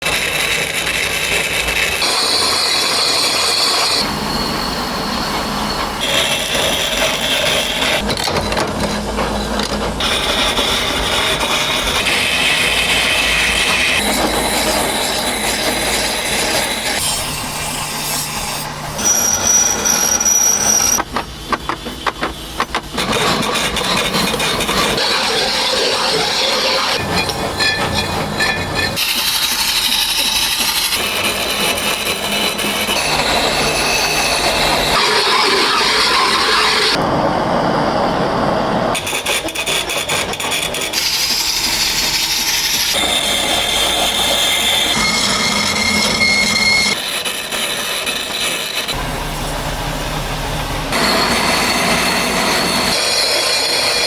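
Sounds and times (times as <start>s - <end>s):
stone grinding and cutting: 0.0s - 37.0s, 39.0s - 49.6s, 50.9s - 54.0s
high steady tool whine: 0.0s - 39.1s, 40.9s - 54.0s.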